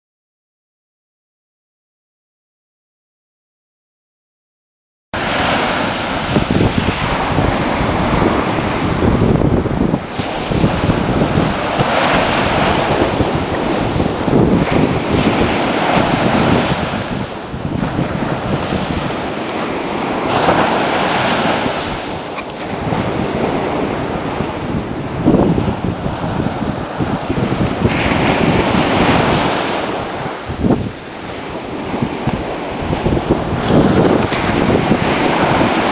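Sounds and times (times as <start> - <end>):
ocean surf breaking: 5.2 - 35.9
wind buffeting microphone: 5.2 - 35.9.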